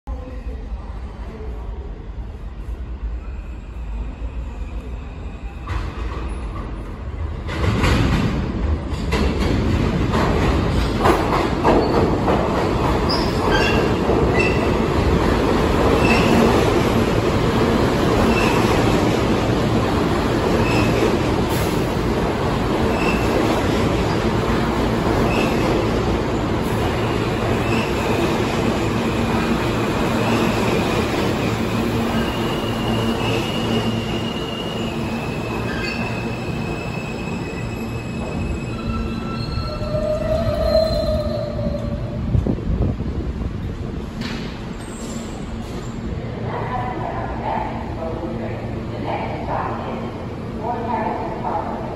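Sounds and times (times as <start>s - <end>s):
train wheels rumbling and clacking: 5.5s - 51.9s.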